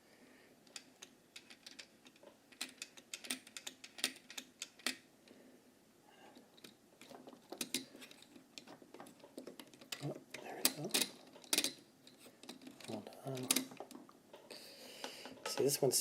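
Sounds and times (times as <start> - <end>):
plastic parts clicking: 0.6 - 5.1, 6.4 - 15.8.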